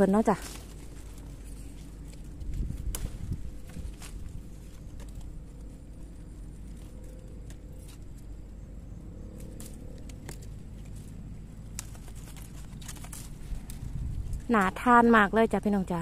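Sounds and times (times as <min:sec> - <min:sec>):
dry plant stems rustling: 0:00.0 - 0:16.0
low rumble of wind: 0:00.0 - 0:16.0.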